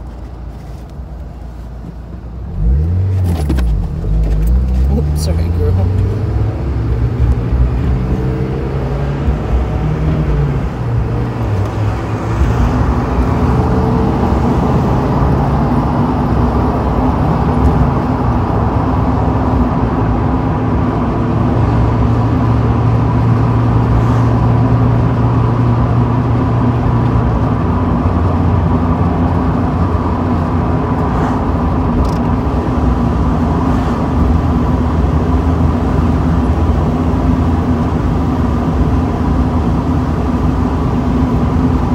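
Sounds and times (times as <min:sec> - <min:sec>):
car engine driving: 0:00.0 - 0:41.9
wind and road noise: 0:00.0 - 0:41.9.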